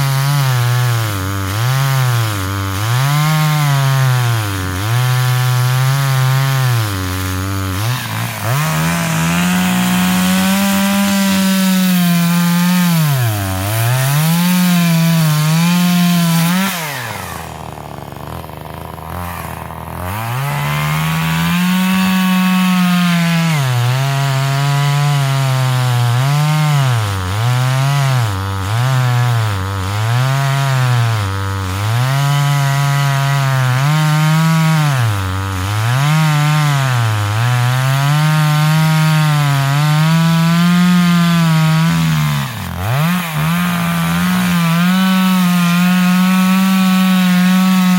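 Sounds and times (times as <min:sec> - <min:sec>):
chainsaw cutting through log: 0:00.0 - 0:47.9.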